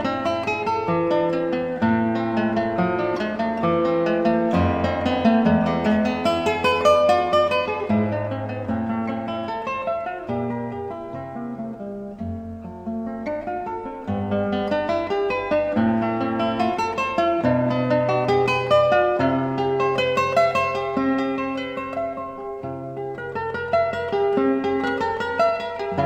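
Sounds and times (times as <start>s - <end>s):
acoustic guitar plucked and strummed: 0.0s - 26.0s.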